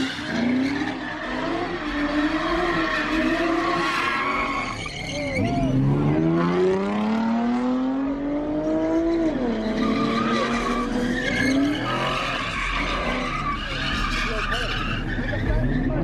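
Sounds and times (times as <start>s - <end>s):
tyre squeal: 0.0s - 6.1s, 8.8s - 16.0s
car engine revving: 0.0s - 16.0s.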